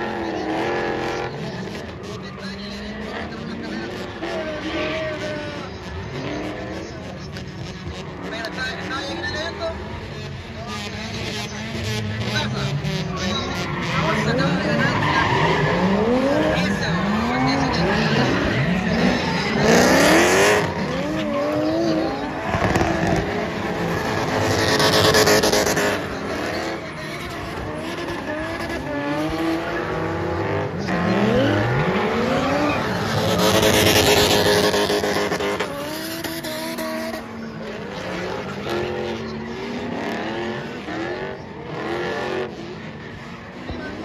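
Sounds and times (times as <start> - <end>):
car engines revving hard: 0.0 - 44.0.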